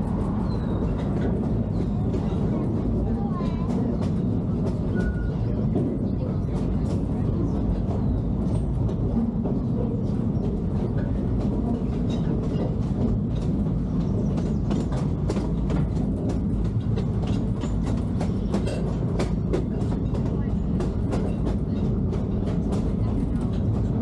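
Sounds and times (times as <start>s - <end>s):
railroad car rumble: 0.0s - 24.0s
wheels clacking on rails: 0.0s - 24.0s.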